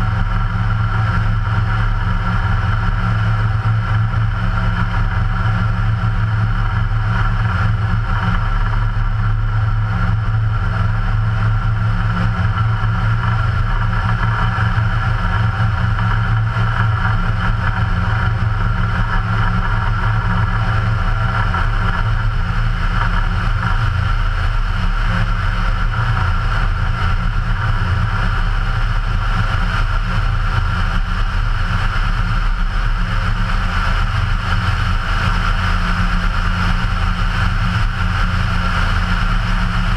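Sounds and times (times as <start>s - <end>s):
aircraft engine and propeller droning: 0.0s - 39.9s.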